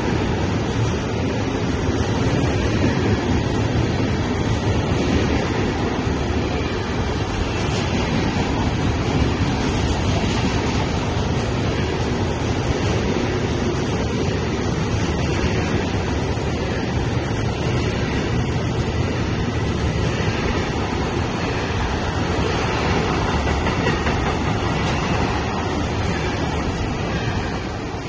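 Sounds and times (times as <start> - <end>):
freight train wheels clattering on rail: 0.0 - 28.0.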